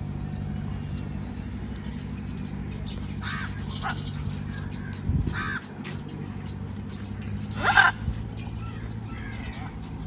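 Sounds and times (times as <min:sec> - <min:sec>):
steady low rumble: 0:00.0 - 0:10.0
birds cawing: 0:01.7 - 0:10.0.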